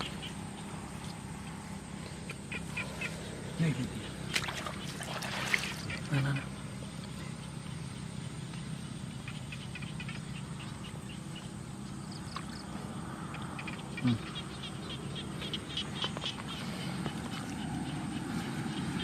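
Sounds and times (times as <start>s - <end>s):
crickets chirping: 0.0s - 19.0s
low background hum: 0.0s - 19.0s.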